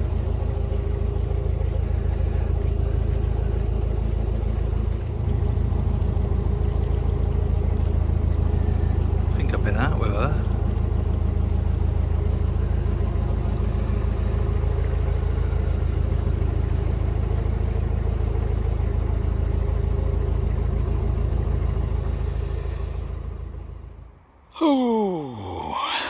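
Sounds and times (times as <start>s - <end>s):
diesel boat engine running: 0.0s - 26.0s.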